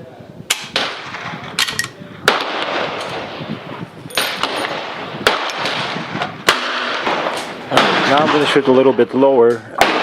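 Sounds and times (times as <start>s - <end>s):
gunshots with echo: 0.5s - 8.8s, 9.8s - 10.0s.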